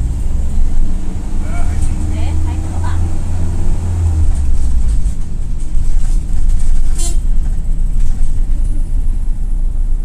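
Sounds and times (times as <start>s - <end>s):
engine and road drone in cabin: 0.0s - 10.0s.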